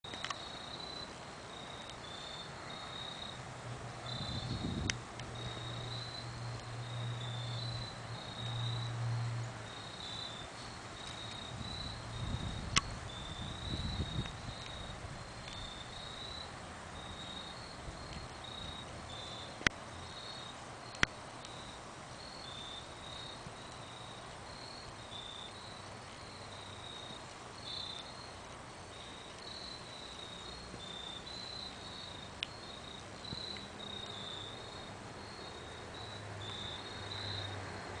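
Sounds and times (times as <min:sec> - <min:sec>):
crickets chirping: 0:00.1 - 0:38.0.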